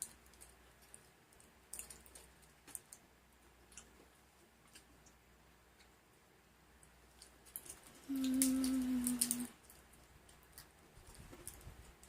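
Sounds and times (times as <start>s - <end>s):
faint chewing with mouth clicks: 0.0s - 6.0s, 6.8s - 12.0s.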